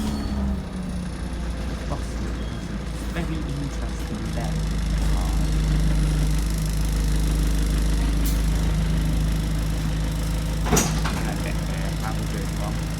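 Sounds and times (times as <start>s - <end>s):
bus diesel engine droning: 0.0s - 12.9s.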